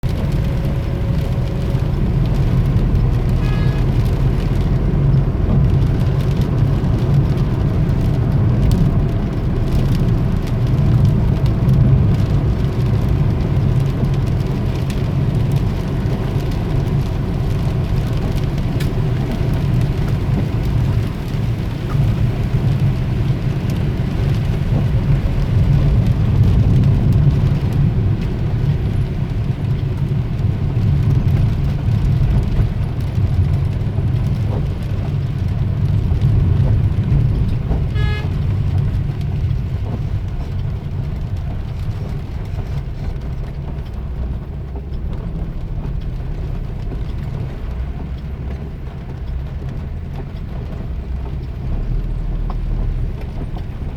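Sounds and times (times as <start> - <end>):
low rumble: 0.0 - 53.9
steady rain falling: 0.0 - 53.9.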